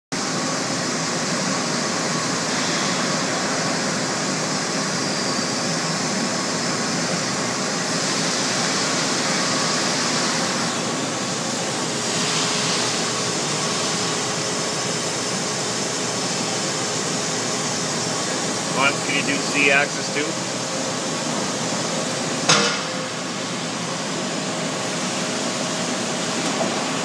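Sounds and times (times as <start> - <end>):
faint machine hum: 0.2 - 27.0
lathe machine hiss: 2.0 - 27.0.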